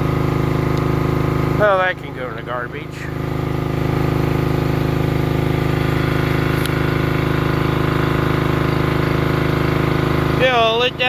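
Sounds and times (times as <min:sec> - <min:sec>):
generator engine running: 0:00.0 - 0:11.0.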